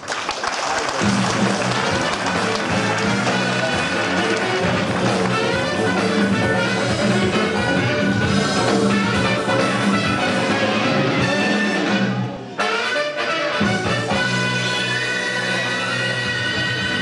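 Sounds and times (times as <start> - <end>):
brassy jazz show music: 0.9 - 17.0.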